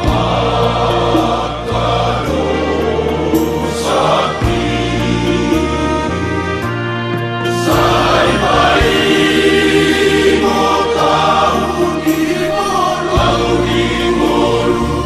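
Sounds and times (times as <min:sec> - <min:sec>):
choir singing a hymn: 0:00.0 - 0:15.0
low bass accompaniment notes: 0:00.0 - 0:15.0.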